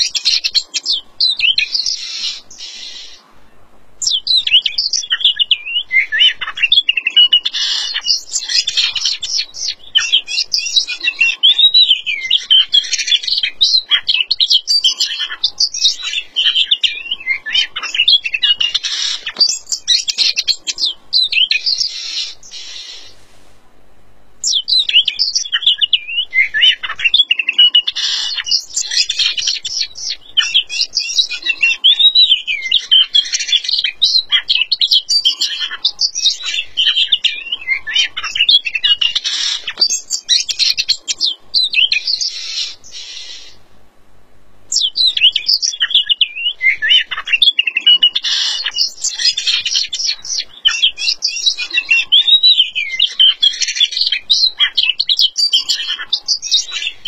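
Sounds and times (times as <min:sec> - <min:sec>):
bird singing rapid song: 0:00.0 - 0:23.2, 0:24.4 - 0:43.6, 0:44.7 - 0:57.0.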